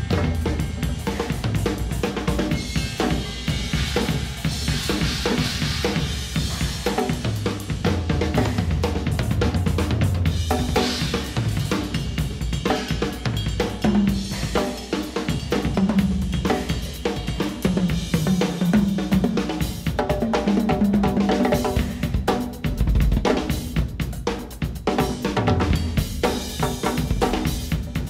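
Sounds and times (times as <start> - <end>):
drum kits playing: 0.0 - 28.0.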